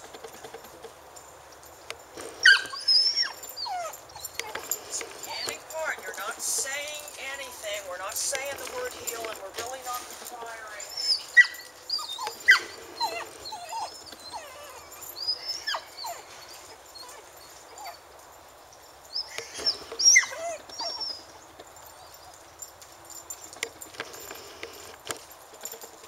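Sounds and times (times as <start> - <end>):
puppy whining and yipping: 2.2 - 18.3, 19.0 - 24.9.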